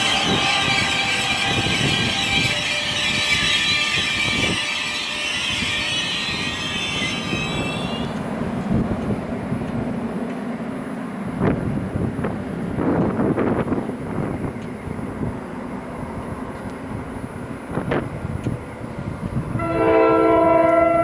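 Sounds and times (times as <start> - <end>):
train high whine: 0.0 - 21.0
train rumble: 0.0 - 21.0.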